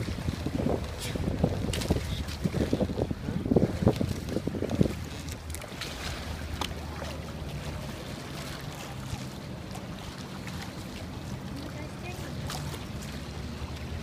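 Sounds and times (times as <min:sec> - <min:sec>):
wind rumbling on microphone: 0:00.0 - 0:11.6
water rushing along boat hull: 0:00.0 - 0:14.0.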